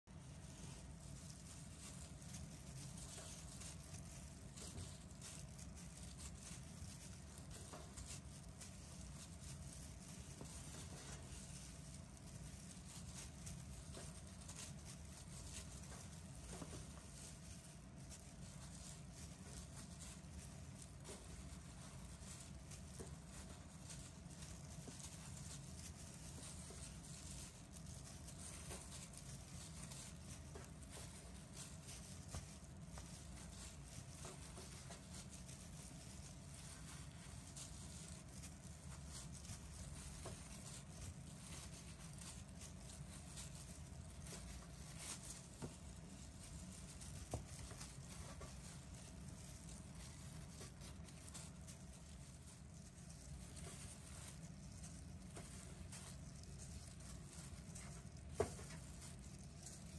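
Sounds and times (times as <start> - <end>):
plastic glove rustling: 0.0 - 59.9.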